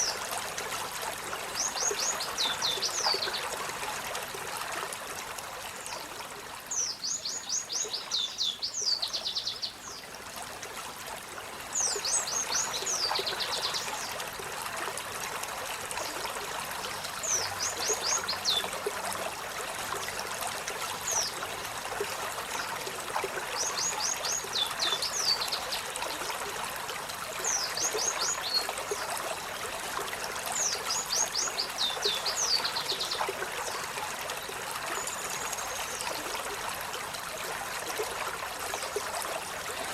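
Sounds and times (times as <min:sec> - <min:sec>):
trickling running water: 0:00.0 - 0:39.9.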